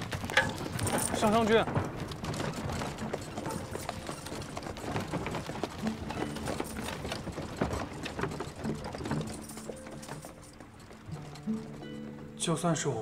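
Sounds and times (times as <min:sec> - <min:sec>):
horse hooves clip-clopping: 0:00.0 - 0:13.0
wooden cart wheels rattling: 0:00.0 - 0:13.0.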